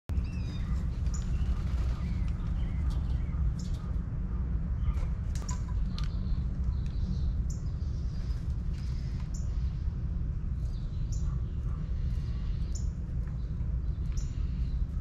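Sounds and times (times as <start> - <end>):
birds chirping and calling: 0.1 - 15.0.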